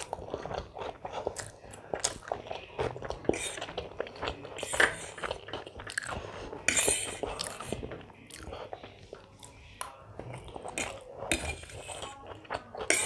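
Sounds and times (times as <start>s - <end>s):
chewing and biting food: 0.0s - 13.0s.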